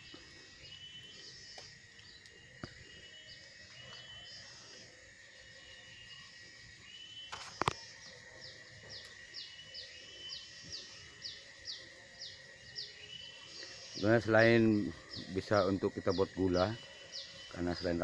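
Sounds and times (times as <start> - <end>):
faint steady high tone: 2.2 - 18.0.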